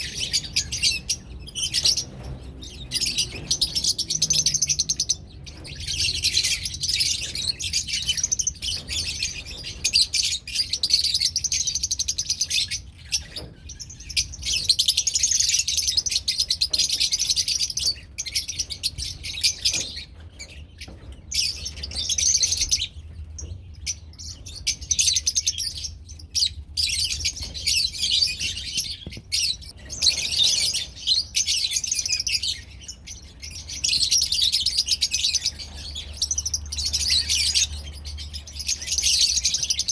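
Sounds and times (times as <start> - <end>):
lovebirds chattering and chirping: 0.0 - 39.9.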